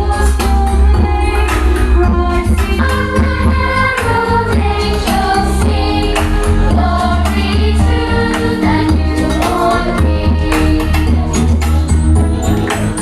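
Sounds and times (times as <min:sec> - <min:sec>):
voices singing over a band: 0:00.0 - 0:13.0.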